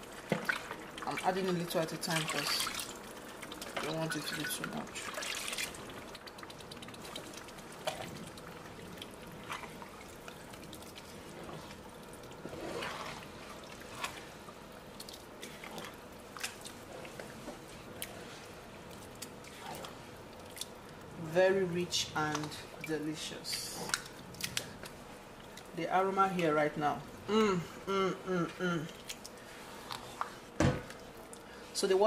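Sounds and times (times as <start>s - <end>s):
liquid sloshing in a pot: 0.0s - 25.8s.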